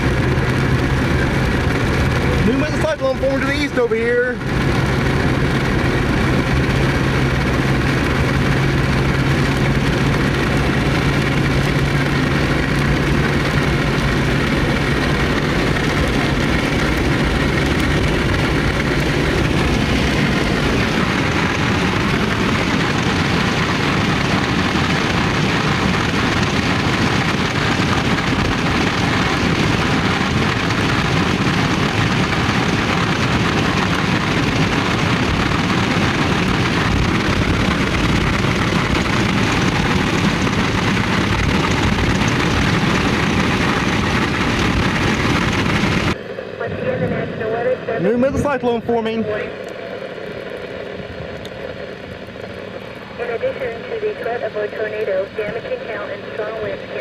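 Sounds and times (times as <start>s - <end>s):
vehicle rushing noise: 0.0s - 53.3s
rough low rumble: 0.0s - 57.0s.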